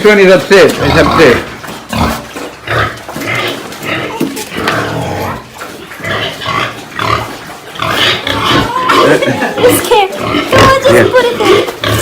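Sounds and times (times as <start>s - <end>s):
pig squealing grunts: 0.8s - 12.0s.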